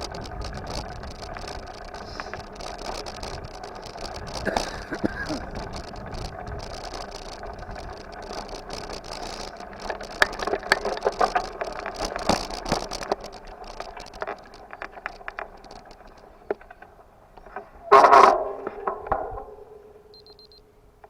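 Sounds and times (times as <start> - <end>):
bicycle rattles and knocks: 0.0 - 21.0
bicycle rolling: 0.0 - 21.0.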